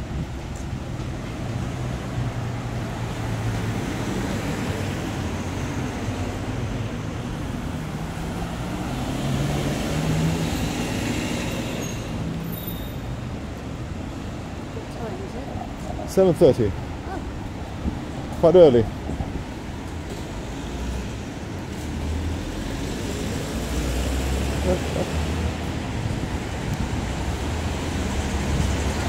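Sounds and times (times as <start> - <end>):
tyre and road noise: 0.0 - 29.0
vehicle engines running: 0.0 - 29.0.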